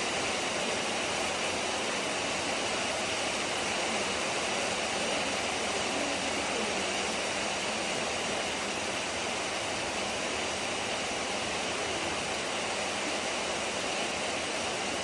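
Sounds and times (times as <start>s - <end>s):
rain drumming on a metal roof: 0.0s - 15.0s.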